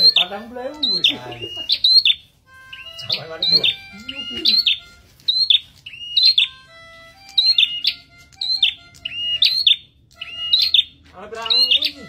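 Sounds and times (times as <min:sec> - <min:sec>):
songbird whistling phrase: 0:00.0 - 0:06.6, 0:07.4 - 0:12.0.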